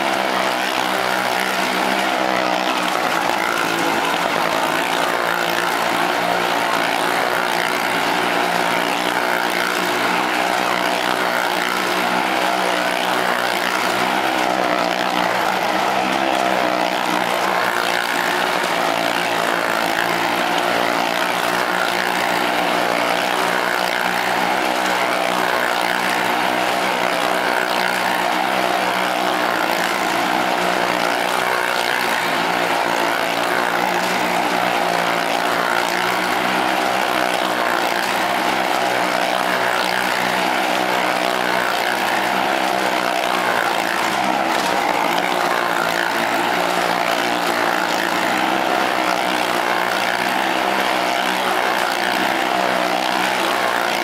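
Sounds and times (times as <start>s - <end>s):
motorcycle engines droning: 0.0s - 54.0s.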